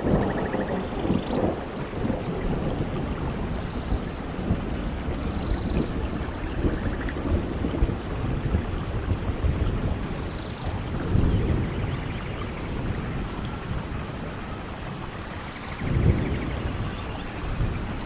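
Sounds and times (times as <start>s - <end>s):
low thunder rumbling: 0.0s - 18.0s
steady rain falling: 0.0s - 18.0s.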